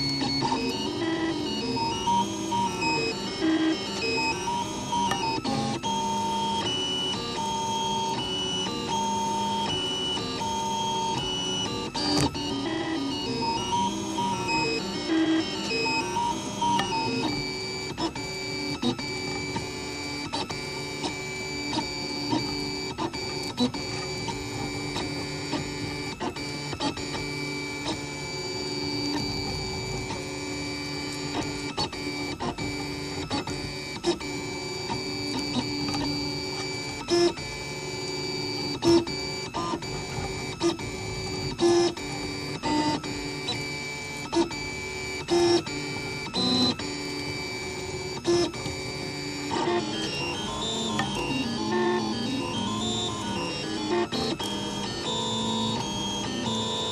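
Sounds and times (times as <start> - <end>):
stepper motors whining: 0.0 - 56.9.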